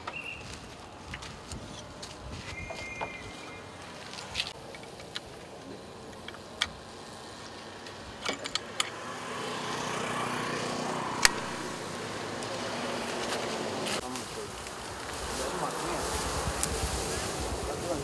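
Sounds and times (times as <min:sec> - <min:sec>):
passing vehicle hum: 0:02.8 - 0:18.0.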